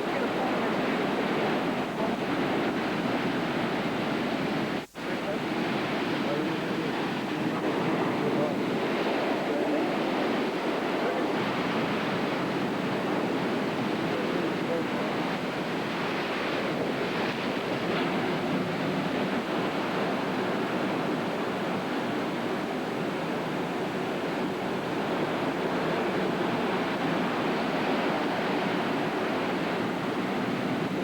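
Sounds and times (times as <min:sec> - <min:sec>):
heavy surf breaking: 0:00.0 - 0:31.0.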